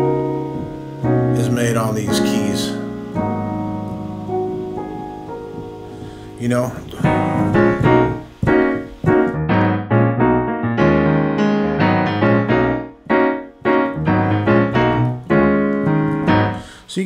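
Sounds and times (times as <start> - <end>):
digital piano playing jazz chords: 0.0 - 17.0.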